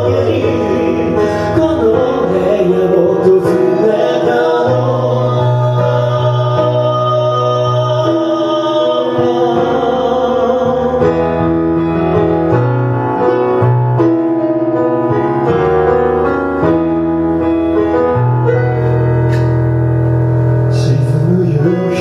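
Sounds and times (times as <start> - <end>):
live piano ballad music: 0.0 - 22.0.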